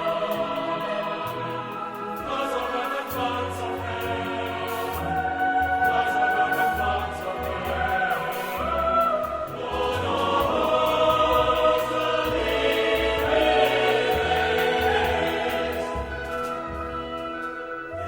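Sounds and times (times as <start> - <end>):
choir singing a hymn: 0.0 - 18.0
instrumental accompaniment: 0.0 - 18.0.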